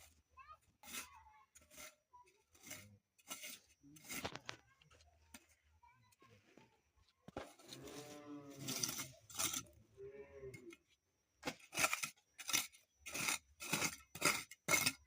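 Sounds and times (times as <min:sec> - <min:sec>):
repeated scraping strokes: 0:00.0 - 0:15.0.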